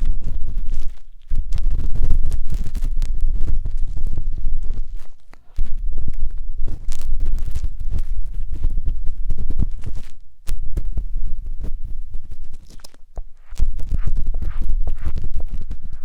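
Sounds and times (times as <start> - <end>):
matchsticks scratching on microphone: 0.0 - 16.0.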